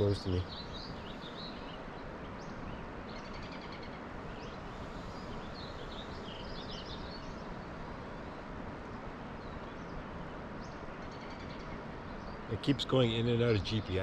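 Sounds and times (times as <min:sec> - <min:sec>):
small birds chirping and trilling: 0:00.0 - 0:14.0.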